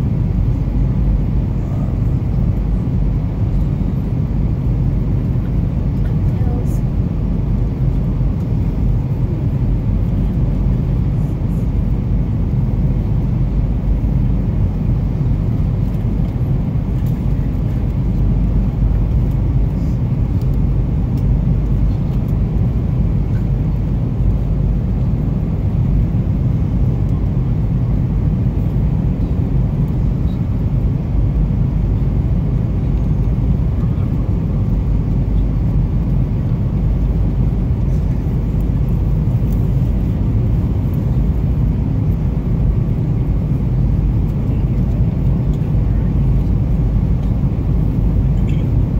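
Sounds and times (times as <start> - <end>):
airliner cabin engine roar: 0.0 - 48.9.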